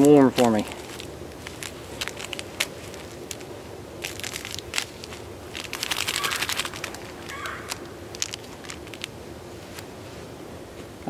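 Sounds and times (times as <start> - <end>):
sharp crackles and clicks: 0.0 - 9.9
glove fabric rustling: 0.0 - 10.9.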